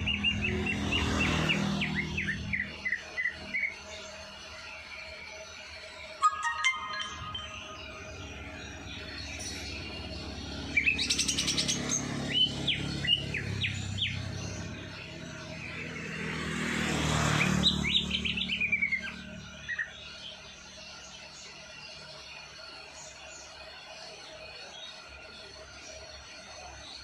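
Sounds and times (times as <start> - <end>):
songbird chirping and trilling: 0.0 - 27.0.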